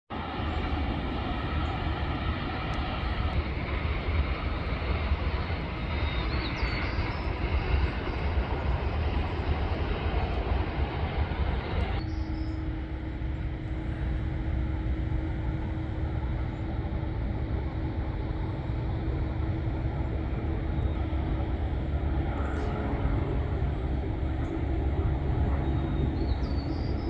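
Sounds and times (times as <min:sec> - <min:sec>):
jet engines rumbling and whining: 0:00.1 - 0:27.0
steady hum: 0:00.1 - 0:27.0.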